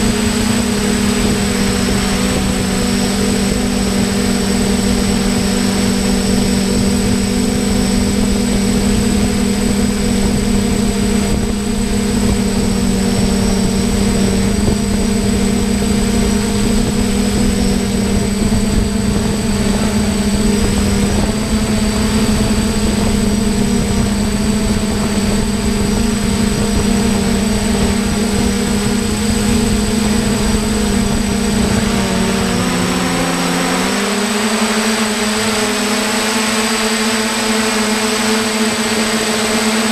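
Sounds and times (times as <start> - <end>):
drone propellers droning: 0.0 - 39.9.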